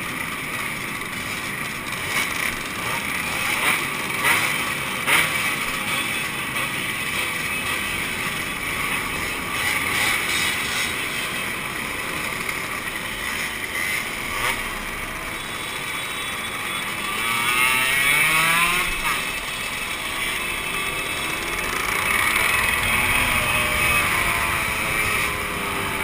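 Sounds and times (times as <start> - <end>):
motorcycle engine revving: 0.0 - 26.0
two-stroke motorcycle engines: 0.0 - 26.0.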